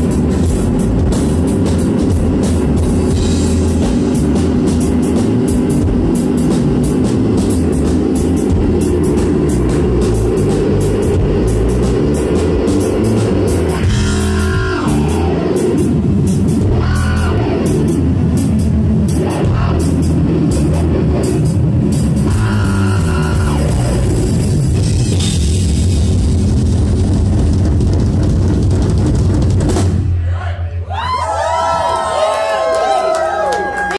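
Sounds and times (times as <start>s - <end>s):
distorted electric guitar sweeps: 0.0s - 29.0s
drums and cymbal crashes: 0.0s - 30.4s.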